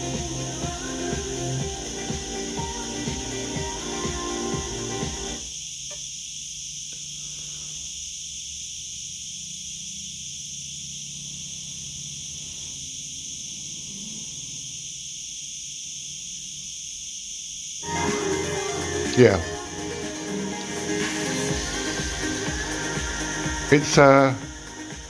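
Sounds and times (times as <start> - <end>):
insect chorus chirring: 0.0 - 25.0.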